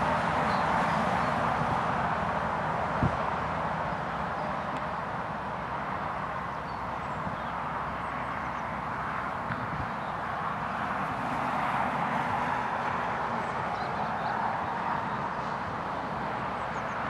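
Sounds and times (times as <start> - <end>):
tidal wave rushing roar: 0.0 - 17.0.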